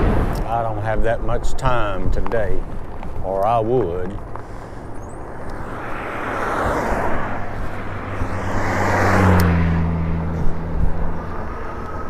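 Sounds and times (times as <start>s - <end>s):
cars passing: 0.0s - 12.0s
low engine hum: 0.0s - 12.0s.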